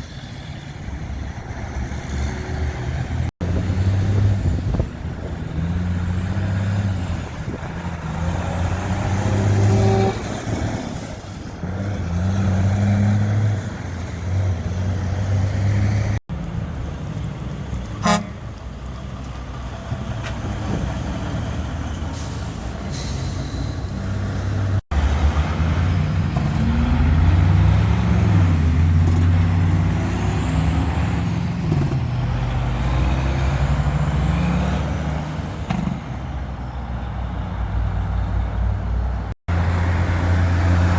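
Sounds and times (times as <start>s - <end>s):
heavy trucks driving past: 0.0s - 40.9s.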